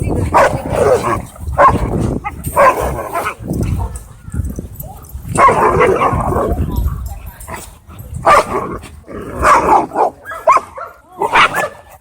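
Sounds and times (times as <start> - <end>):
dogs barking: 0.3 - 4.1, 5.3 - 6.7, 7.5 - 12.0.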